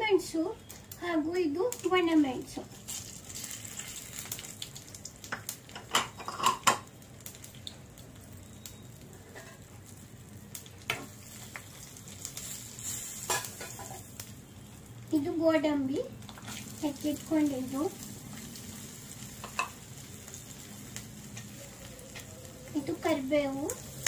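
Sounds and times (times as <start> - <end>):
hot oil sizzling: 0.0 - 24.0
sharp crackles: 0.5 - 5.7, 6.9 - 24.0.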